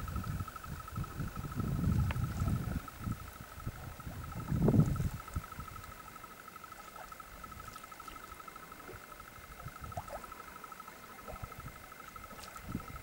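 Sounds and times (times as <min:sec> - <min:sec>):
wind buffeting microphone: 0:00.0 - 0:07.8, 0:08.9 - 0:13.0.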